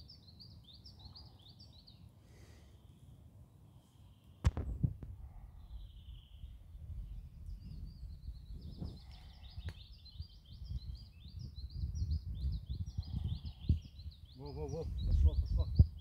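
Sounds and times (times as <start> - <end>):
songbird chirping: 0.0 - 4.5, 5.4 - 16.0.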